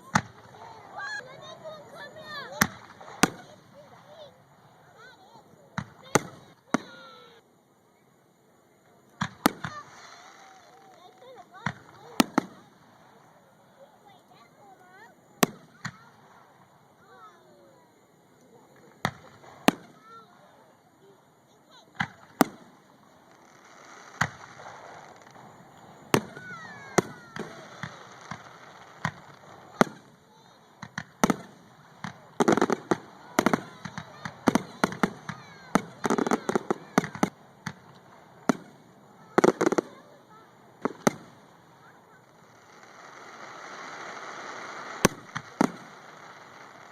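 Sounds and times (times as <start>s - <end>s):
fireworks bangs: 0.0s - 7.4s, 8.8s - 17.8s, 18.5s - 20.7s, 21.7s - 46.9s.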